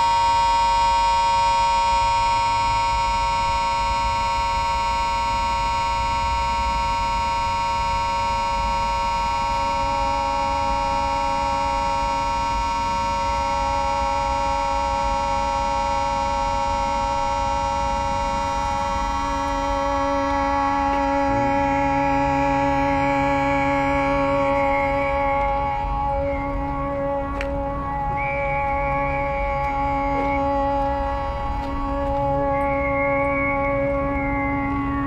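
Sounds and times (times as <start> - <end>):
horn-like sustained drone: 0.0 - 35.0
lower sustained tone: 0.0 - 35.0.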